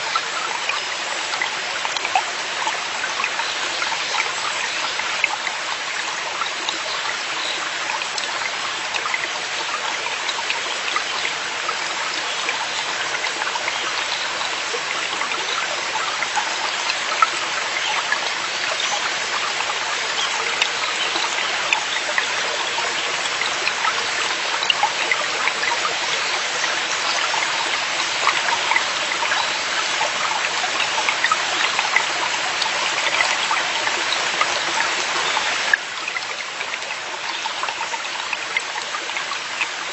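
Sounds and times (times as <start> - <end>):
stream rushing over rocks: 0.0 - 39.9
water splashes and drips: 0.0 - 39.9.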